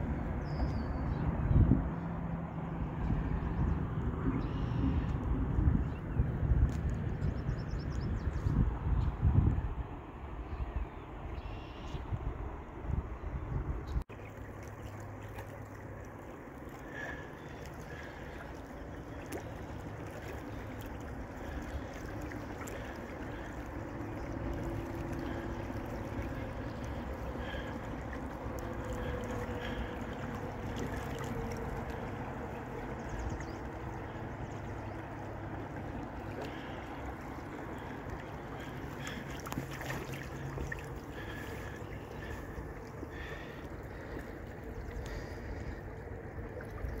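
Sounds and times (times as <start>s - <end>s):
steady low rumble: 0.0s - 47.0s
water lapping against a boat: 0.0s - 47.0s.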